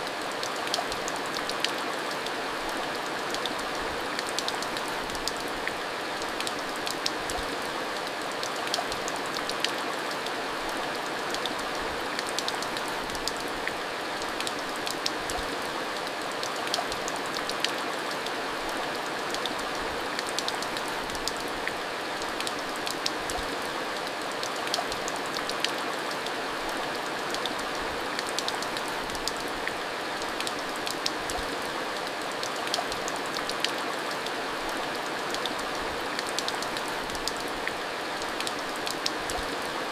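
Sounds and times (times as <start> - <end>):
heavy rain with drop ticks: 0.0 - 39.9.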